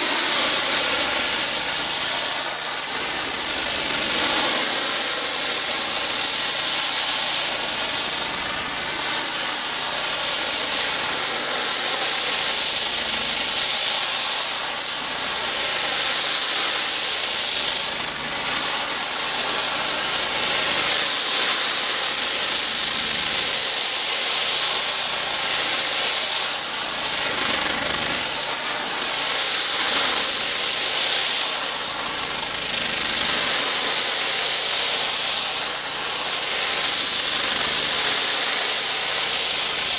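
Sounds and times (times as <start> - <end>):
pressure washer spray hissing: 0.0 - 39.9.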